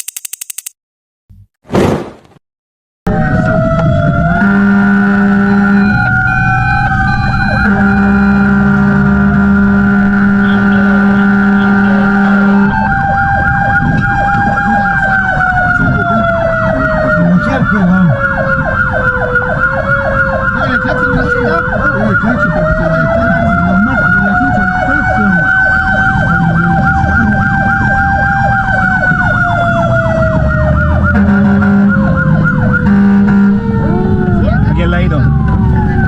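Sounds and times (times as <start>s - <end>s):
engine and road rumble: 3.1s - 36.0s
fire engine siren yelping: 3.1s - 36.0s
siren slow wail: 3.1s - 36.0s.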